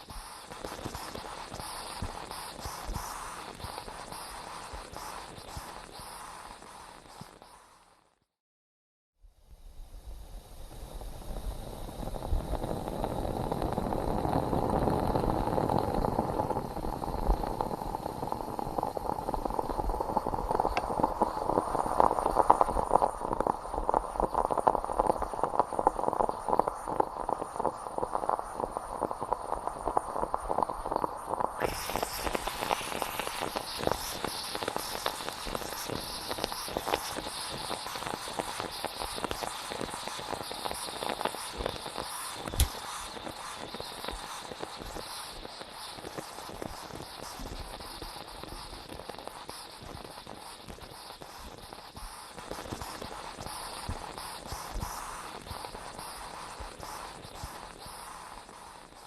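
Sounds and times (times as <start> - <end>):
moka pot coffee bubbling: 0.0 - 8.1, 9.8 - 59.0.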